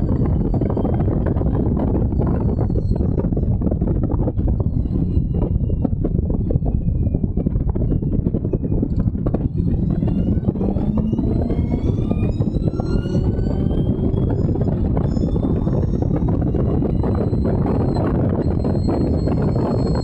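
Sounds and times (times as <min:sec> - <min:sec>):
racing car engine running hard: 0:00.0 - 0:20.0.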